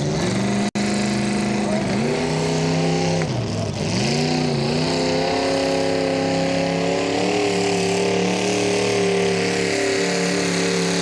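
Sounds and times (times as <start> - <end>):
tractor engine revving hard: 0.0 - 11.0.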